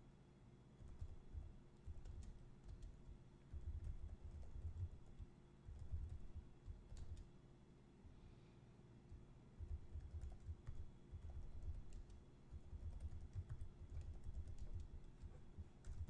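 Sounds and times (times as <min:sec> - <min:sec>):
computer keyboard typing: 0:00.8 - 0:07.3, 0:09.6 - 0:16.0.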